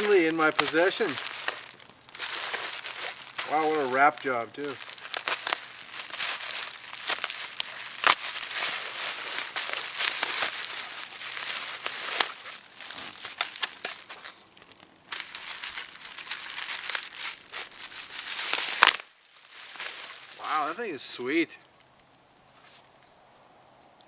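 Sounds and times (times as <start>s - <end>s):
packing wrap crinkling and tearing: 0.0s - 21.1s.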